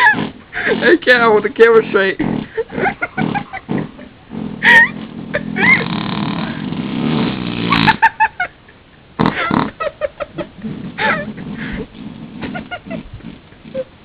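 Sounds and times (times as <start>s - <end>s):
raspberries blown on skin: 0.0s - 1.0s, 2.2s - 8.4s, 9.2s - 14.0s.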